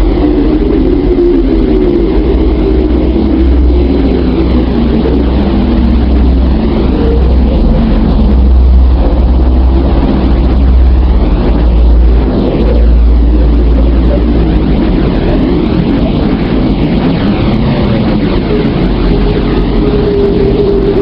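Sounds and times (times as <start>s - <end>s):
deep rumbling space drone: 0.0s - 21.0s.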